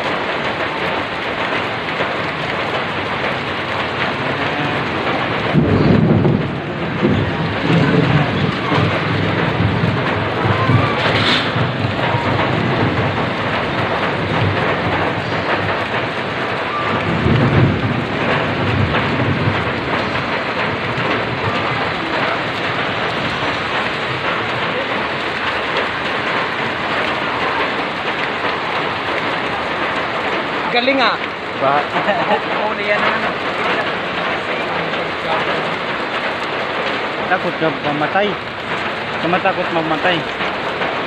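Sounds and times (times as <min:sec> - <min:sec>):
heavy rain splashing in water: 0:00.0 - 0:41.0
low rumbles: 0:00.0 - 0:41.0.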